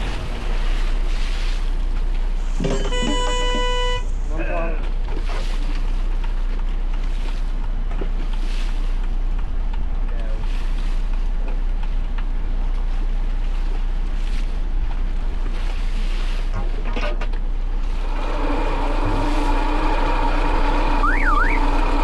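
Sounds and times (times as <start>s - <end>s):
water noise: 0.0s - 16.8s, 17.4s - 22.0s
boat engine low rumble: 0.0s - 22.0s.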